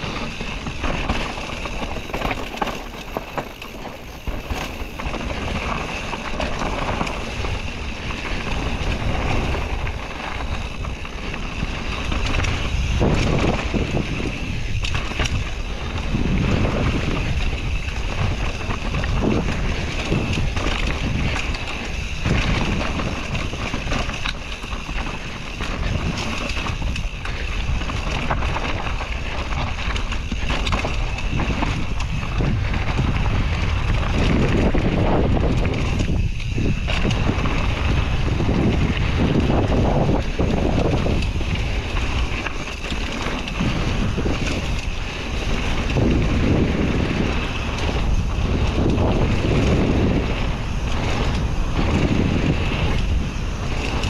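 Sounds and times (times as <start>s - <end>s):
bike jolts and rattles: 0.0s - 54.0s
bike tyres rumbling on dirt: 0.0s - 54.0s
wind buffeting microphone: 0.0s - 54.0s.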